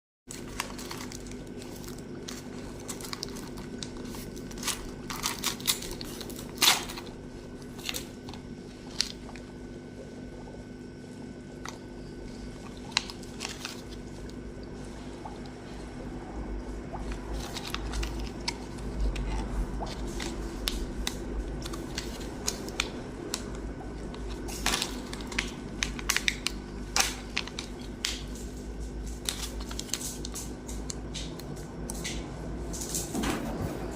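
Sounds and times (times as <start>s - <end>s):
steady low hum: 0.3s - 33.9s.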